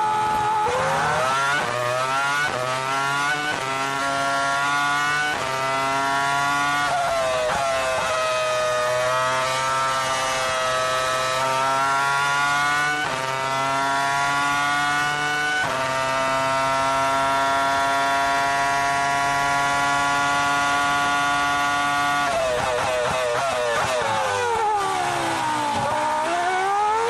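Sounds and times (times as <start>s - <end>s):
racing car engine accelerating: 0.0s - 27.0s.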